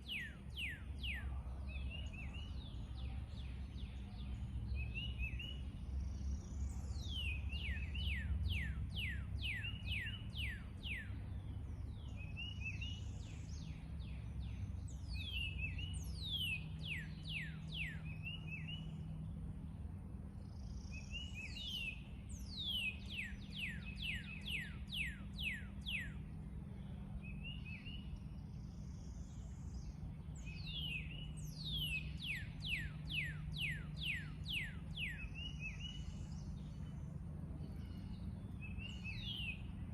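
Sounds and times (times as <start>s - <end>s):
bird chirps and high calls: 0.0s - 19.3s, 20.4s - 39.9s
songbird singing: 0.0s - 39.9s
steady low rumble: 0.0s - 39.9s.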